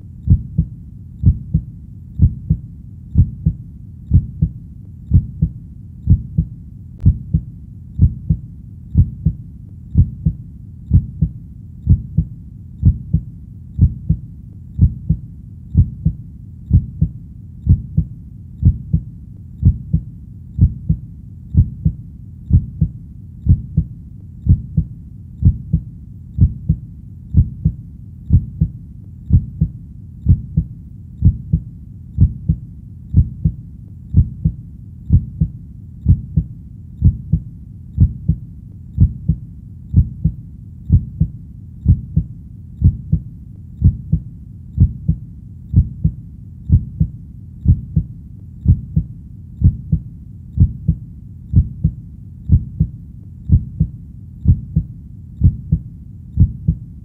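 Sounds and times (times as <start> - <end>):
heartbeat thumps: 0.0 - 56.9.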